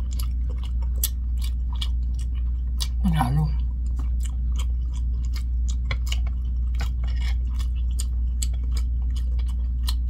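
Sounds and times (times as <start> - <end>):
person chewing with wet mouth clicks: 0.0 - 10.0
steady low hum: 0.0 - 10.0.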